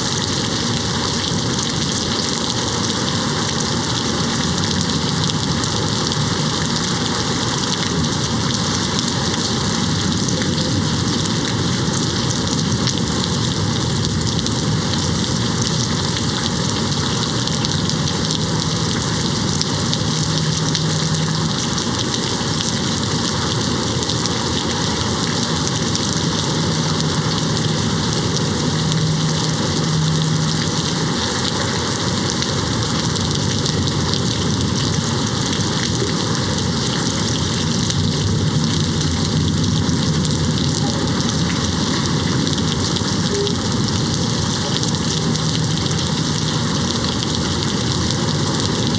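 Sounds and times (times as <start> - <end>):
rain beating on a window: 0.0 - 48.9.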